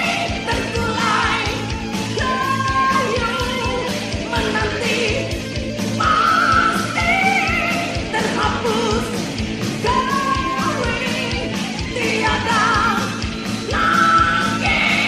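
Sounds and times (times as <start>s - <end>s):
rock band with drum beat: 0.0s - 15.0s.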